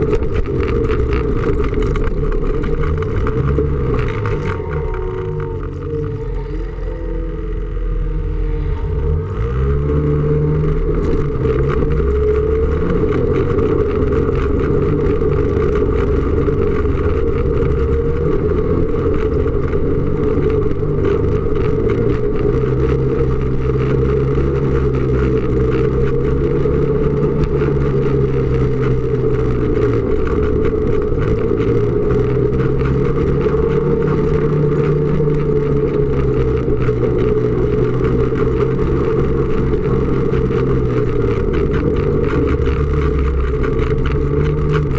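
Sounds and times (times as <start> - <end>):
snowmobile engine running: 0.0 - 44.9.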